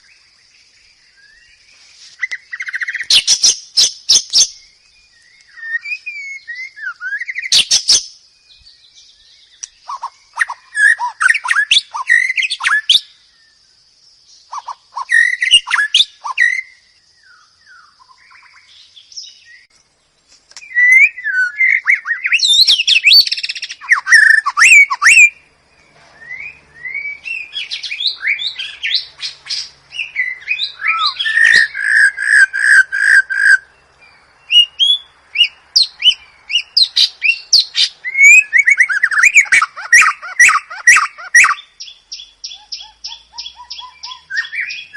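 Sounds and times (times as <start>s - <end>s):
bird singing whistled phrases: 2.2s - 13.2s, 14.4s - 19.7s, 20.6s - 25.5s, 26.1s - 44.9s.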